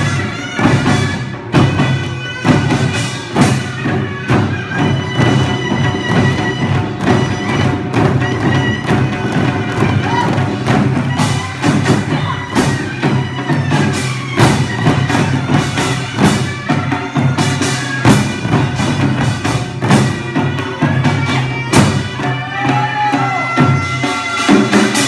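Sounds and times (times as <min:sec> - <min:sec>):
drum strikes: 0:00.0 - 0:25.0.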